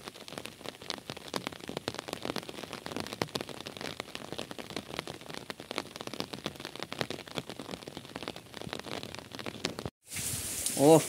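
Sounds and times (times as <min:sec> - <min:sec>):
rain on ground and puddles: 0:00.0 - 0:11.0.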